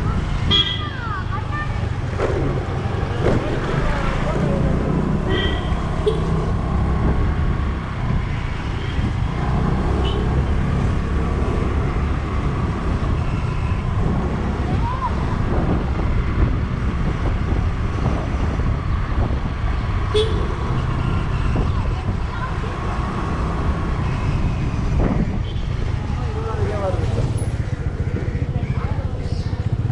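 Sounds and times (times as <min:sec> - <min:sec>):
motorcycle engine and road noise: 0:00.0 - 0:29.9
wind rumbling on microphone: 0:06.0 - 0:29.9.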